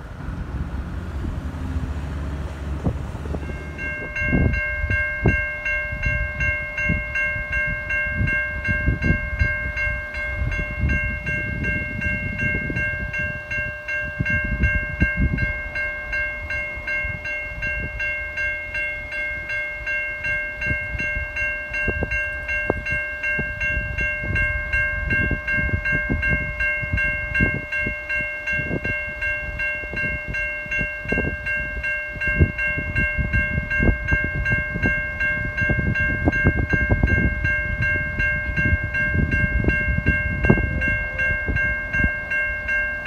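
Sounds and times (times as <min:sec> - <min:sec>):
diesel locomotive rumble: 0:00.0 - 0:43.0
level crossing warning bells: 0:00.0 - 0:43.0.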